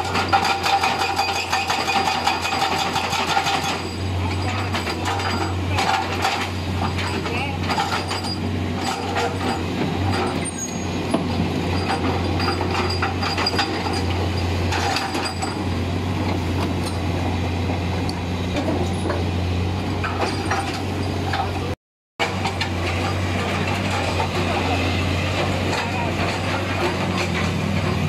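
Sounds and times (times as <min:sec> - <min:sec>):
hydraulic breaker hammering rock: 0:00.0 - 0:17.1, 0:20.0 - 0:28.0
excavator diesel engine running: 0:00.0 - 0:28.0.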